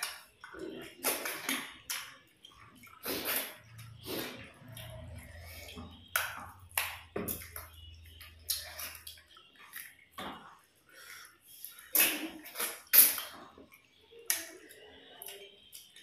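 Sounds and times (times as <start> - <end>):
people chewing and sucking: 0.0 - 16.0.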